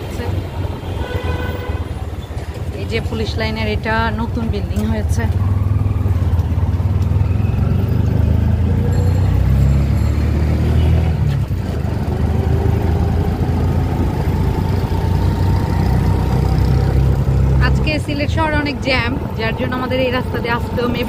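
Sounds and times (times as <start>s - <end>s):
auto-rickshaw engine droning: 0.0s - 21.0s
passing street traffic: 0.0s - 21.0s.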